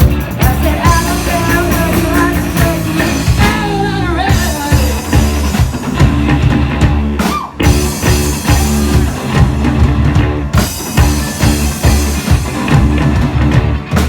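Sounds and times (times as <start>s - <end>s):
bass guitar: 0.0s - 14.0s
drum kit: 0.0s - 14.0s
electric guitar: 0.0s - 14.0s.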